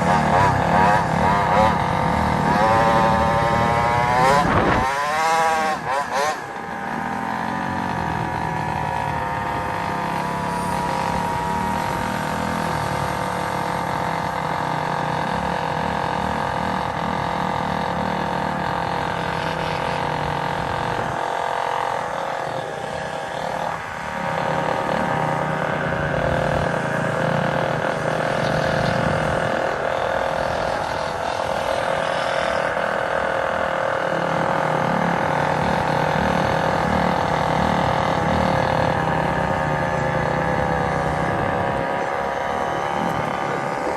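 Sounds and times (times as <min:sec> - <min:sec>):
small gasoline engine running: 0:00.0 - 0:43.9.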